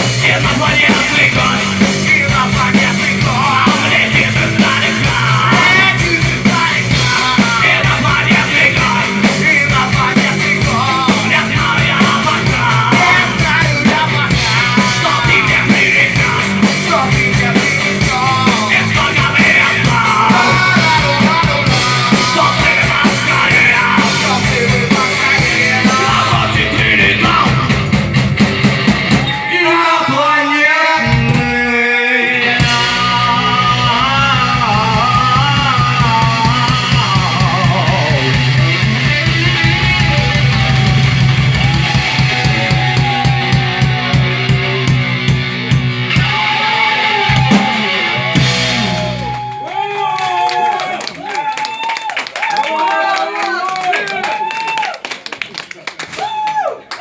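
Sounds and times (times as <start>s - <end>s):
live punk rock band: 0.0s - 52.7s.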